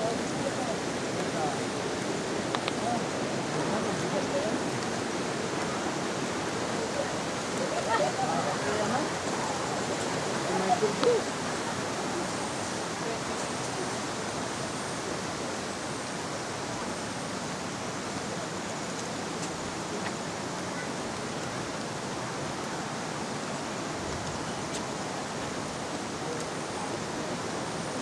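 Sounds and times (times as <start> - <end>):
rush of flowing water: 0.0 - 28.0.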